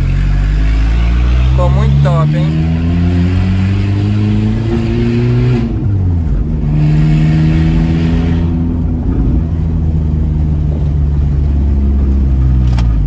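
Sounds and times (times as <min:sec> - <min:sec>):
car engine revving with gear changes: 0:00.0 - 0:13.0.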